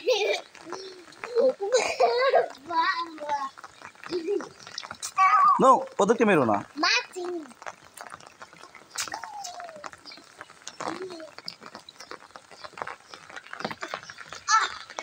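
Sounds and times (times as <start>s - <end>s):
rain on wet concrete: 0.0s - 15.0s.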